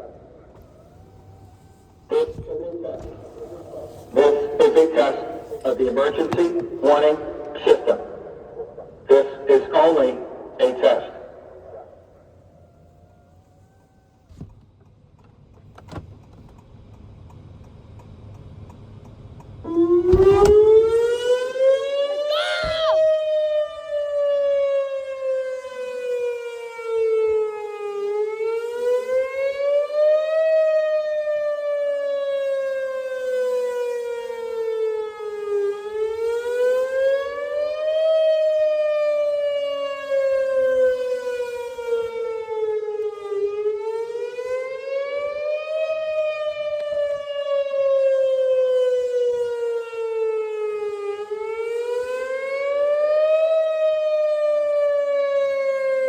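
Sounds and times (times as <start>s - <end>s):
warning siren wailing: 0.0s - 7.6s, 10.2s - 14.4s, 19.6s - 56.0s.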